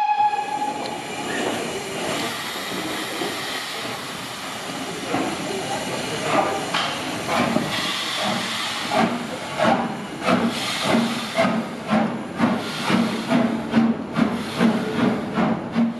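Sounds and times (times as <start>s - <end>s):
steam hissing: 0.0s - 15.9s
steam locomotive exhaust chuffs: 0.0s - 15.9s.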